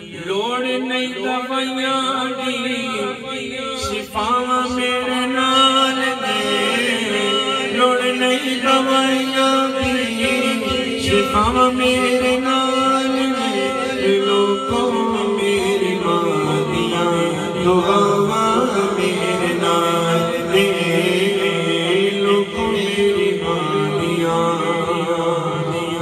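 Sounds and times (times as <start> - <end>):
man singing into microphone: 0.0 - 26.0.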